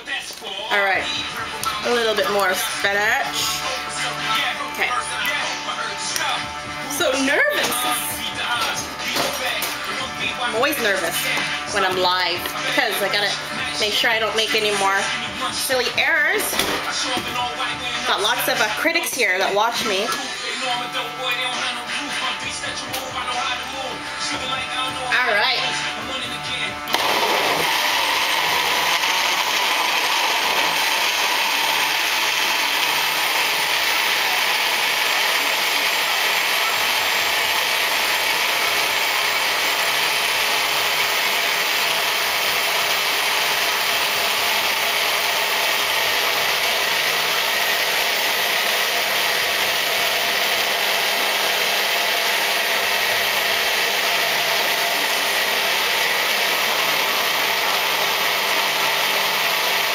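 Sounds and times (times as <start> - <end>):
blender running: 0.6 - 59.9.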